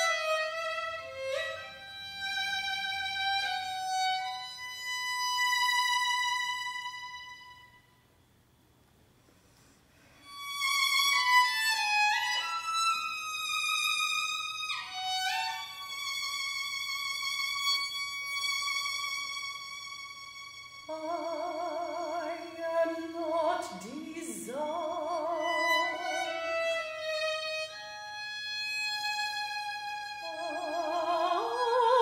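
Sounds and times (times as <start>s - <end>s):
solo violin long held notes: 0.0s - 8.0s, 10.2s - 32.0s.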